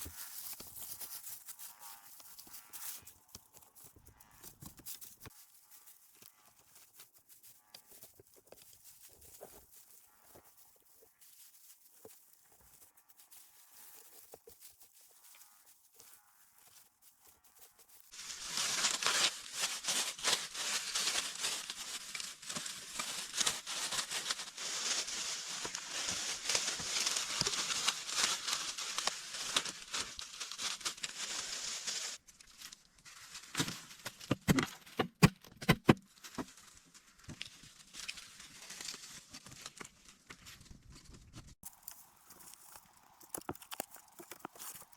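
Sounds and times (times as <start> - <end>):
dense rustling and crackling: 0.0 - 34.2, 36.1 - 44.9.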